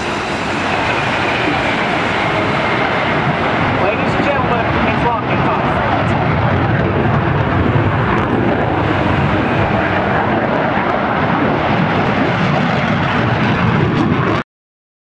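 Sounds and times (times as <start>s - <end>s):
aircraft engine rush: 0.0s - 14.4s.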